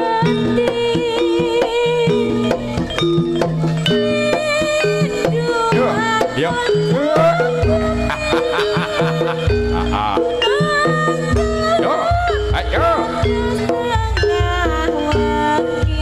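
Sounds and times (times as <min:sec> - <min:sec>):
pitch-bending melodic line: 0:00.0 - 0:15.7
drum strokes: 0:00.0 - 0:16.0
gamelan-style ensemble playing: 0:00.0 - 0:16.0.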